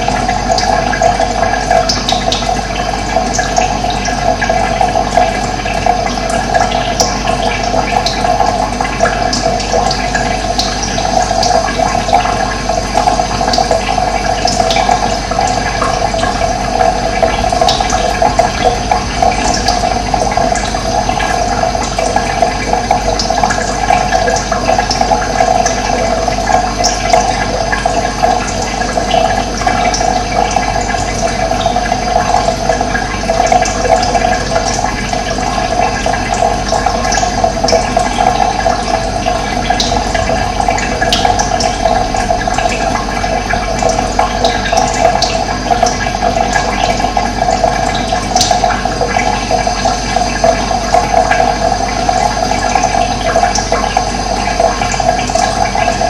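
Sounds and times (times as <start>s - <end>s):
high-pitched splashes: 0.0s - 56.0s
running water rushing: 0.0s - 56.0s.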